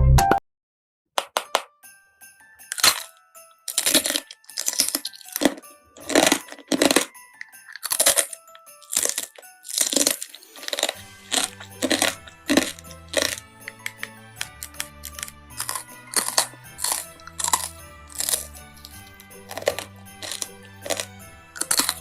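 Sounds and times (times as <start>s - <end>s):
crunchy eating: 2.7s - 3.1s, 3.7s - 22.0s
faint background music: 3.7s - 22.0s.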